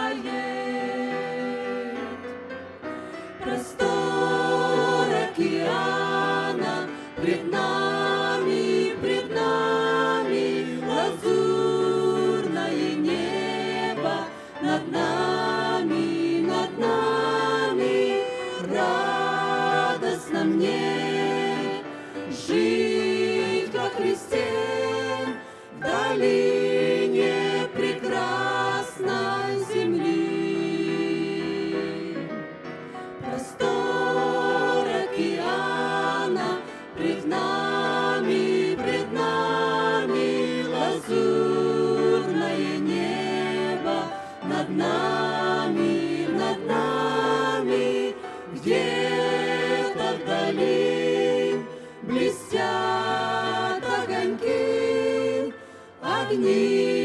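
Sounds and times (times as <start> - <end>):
mixed group singing in harmony: 0.0 - 57.0.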